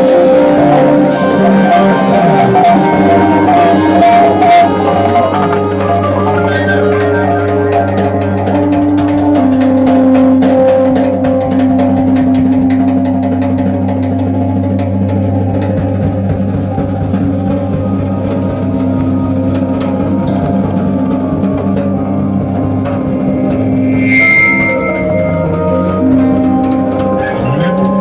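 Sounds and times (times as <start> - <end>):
drum kit with busy cymbals: 0.0 - 28.0
electric bass: 0.0 - 28.0
long held keyboard notes: 0.0 - 28.0.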